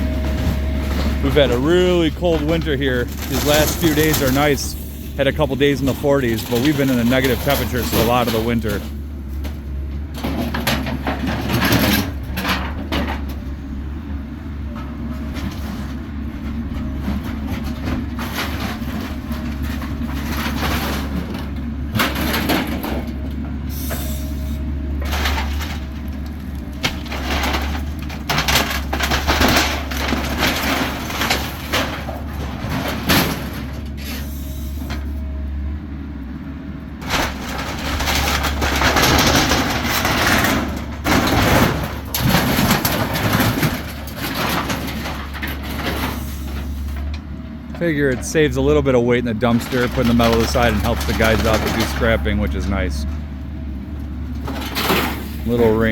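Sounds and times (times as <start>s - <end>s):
excavator diesel engine running: 0.0s - 55.9s
wood and metal cracking: 0.1s - 13.4s, 14.8s - 34.1s, 37.0s - 48.6s, 49.2s - 55.9s.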